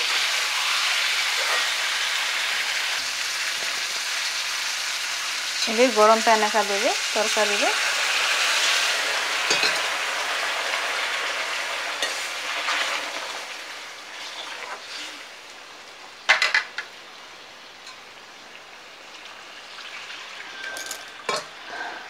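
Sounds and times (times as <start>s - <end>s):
curry sizzling and bubbling: 0.0s - 22.0s.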